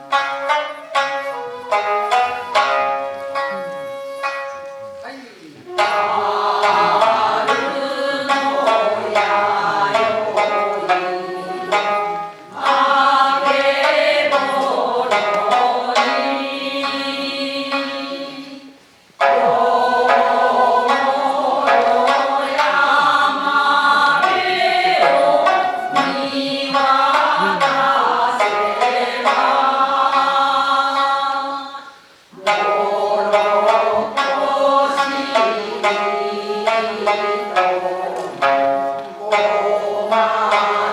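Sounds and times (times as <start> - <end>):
group singing folk song: 0.0 - 3.4, 5.7 - 40.9
bamboo flute: 0.0 - 40.9
shamisen: 0.0 - 40.9.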